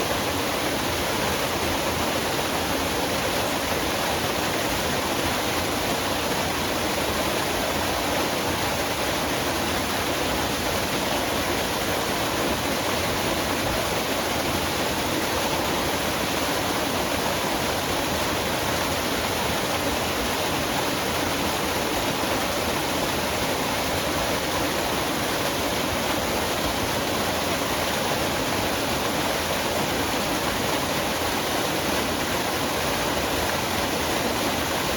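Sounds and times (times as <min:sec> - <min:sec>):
waterfall pouring and splashing: 0:00.0 - 0:34.9.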